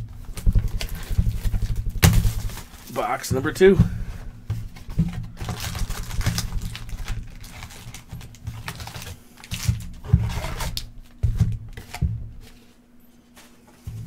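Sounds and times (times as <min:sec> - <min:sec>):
foil card packs crinkling: 0:00.1 - 0:12.7.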